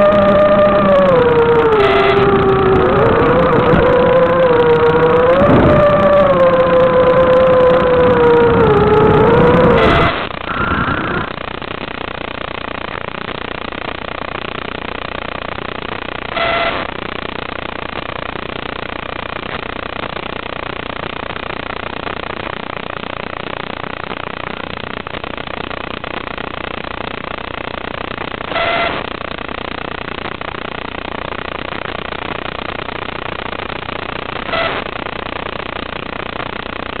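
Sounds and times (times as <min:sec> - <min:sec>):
video-link audio hiss: 0:00.0 - 0:37.0.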